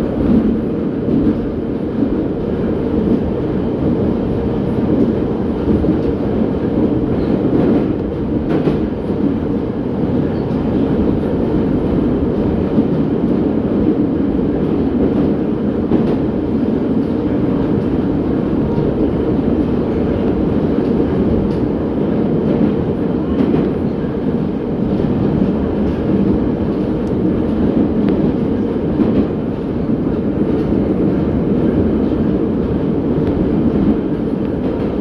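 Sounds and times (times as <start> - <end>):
faint clicks from rails: 0.0 - 35.0
metro train rumbling in tunnel: 0.0 - 35.0.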